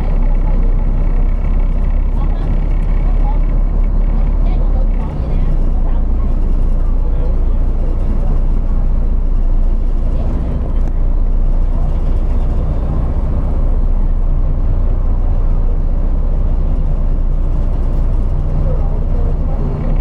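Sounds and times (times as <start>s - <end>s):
engine drone: 0.0s - 20.0s
road noise: 0.0s - 20.0s.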